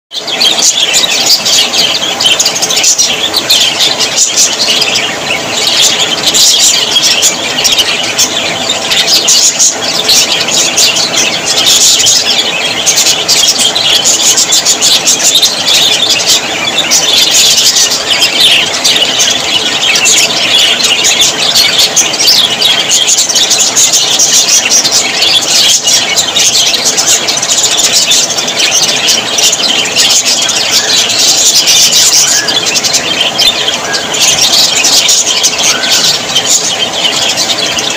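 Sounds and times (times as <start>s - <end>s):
budgerigars chattering: 0.1s - 37.9s.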